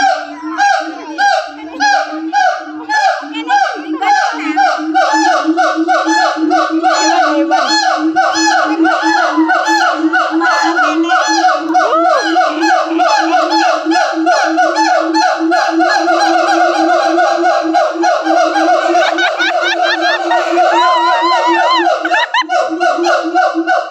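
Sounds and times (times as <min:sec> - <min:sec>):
monkeys calling: 0:00.0 - 0:23.9.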